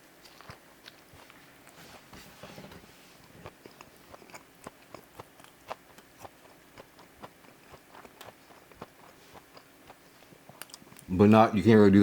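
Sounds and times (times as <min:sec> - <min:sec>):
person chewing: 0:00.0 - 0:02.1, 0:03.2 - 0:11.1.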